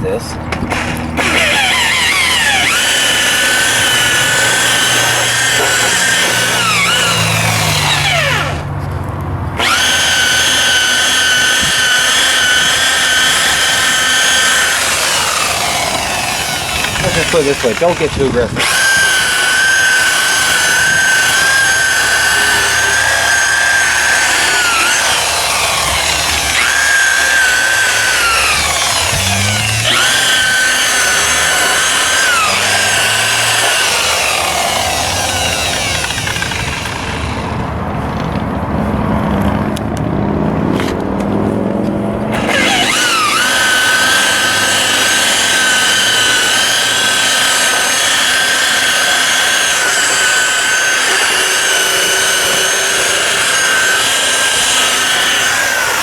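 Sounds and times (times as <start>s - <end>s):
electric buffer motor whine: 0.4s - 8.8s, 9.6s - 37.7s, 42.3s - 56.0s.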